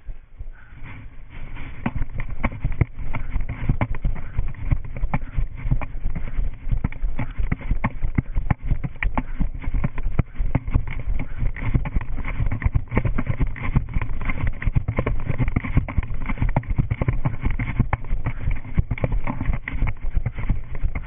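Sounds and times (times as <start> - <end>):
running footsteps on concrete: 0.4 - 21.0.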